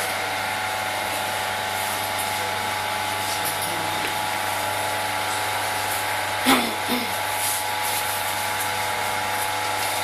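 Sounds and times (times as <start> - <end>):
potter's wheel motor humming: 0.0 - 10.0.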